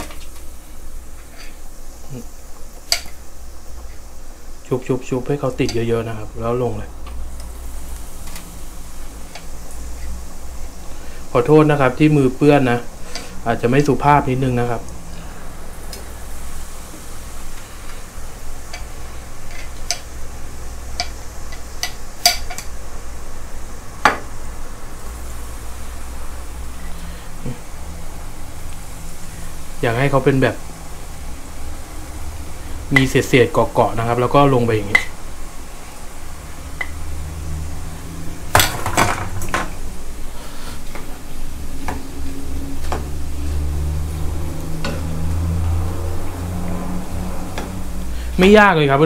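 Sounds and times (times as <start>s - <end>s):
oil sizzling in a pan: 0.0s - 49.0s
steady low hum: 0.0s - 49.0s.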